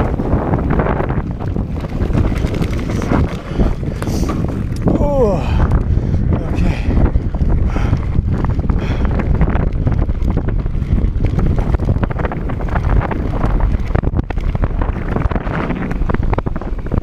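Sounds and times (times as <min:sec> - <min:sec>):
bike rattling on bumpy trail: 0:00.0 - 0:17.0
wind buffeting microphone: 0:00.0 - 0:17.0.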